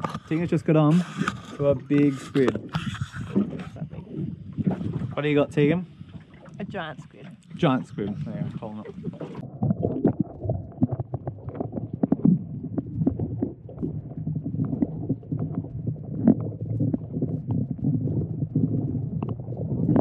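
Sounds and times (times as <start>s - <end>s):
muffled underwater water rumble: 0.0s - 20.0s
underwater knocks and clicks: 0.0s - 20.0s.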